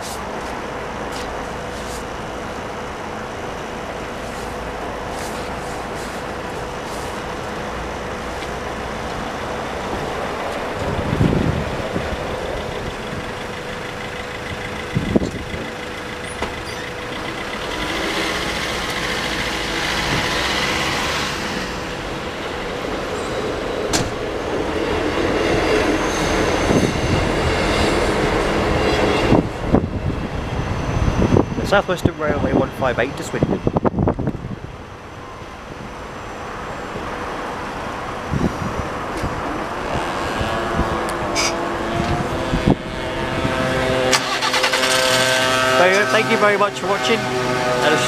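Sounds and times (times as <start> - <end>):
vehicle engines rumbling: 0.0 - 48.0
van driving past: 0.7 - 31.6, 39.6 - 48.0.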